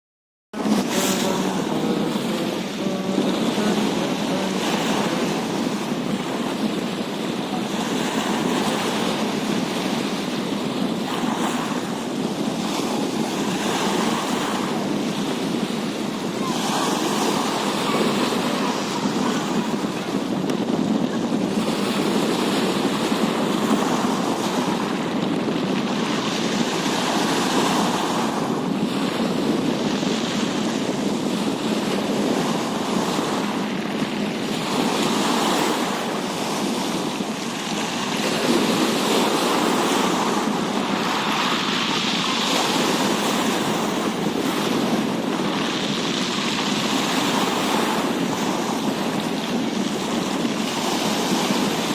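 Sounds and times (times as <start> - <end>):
wind buffeting microphone: 0.5 - 51.9
rushing water jets: 0.6 - 51.9.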